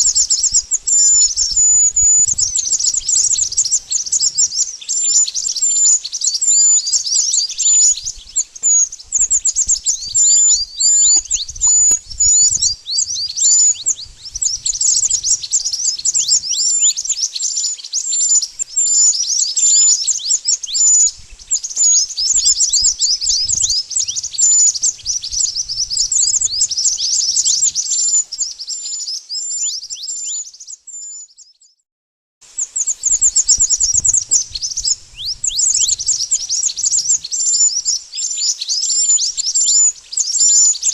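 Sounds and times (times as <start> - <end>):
songbird chirps and whistles: 0.0 - 31.8, 32.4 - 40.9.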